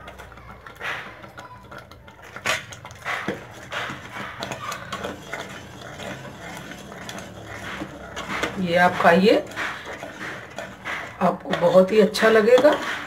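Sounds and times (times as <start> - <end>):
metal ladle scraping a pot: 0.0 - 13.0.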